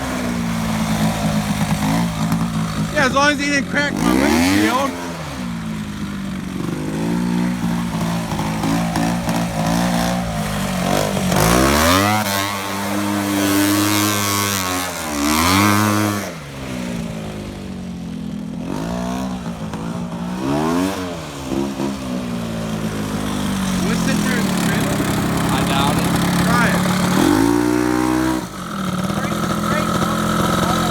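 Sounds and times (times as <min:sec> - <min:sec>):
tractor engine revving: 0:00.0 - 0:30.9.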